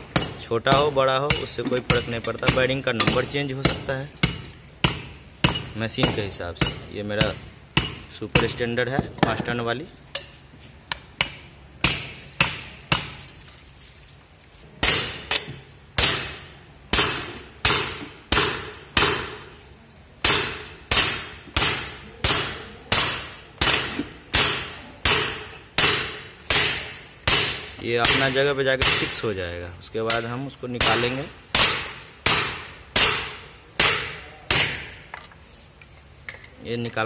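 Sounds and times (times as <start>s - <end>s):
hammer striking steel: 0.0s - 8.6s, 10.2s - 13.2s, 14.8s - 19.5s, 20.2s - 29.2s, 30.1s - 35.1s.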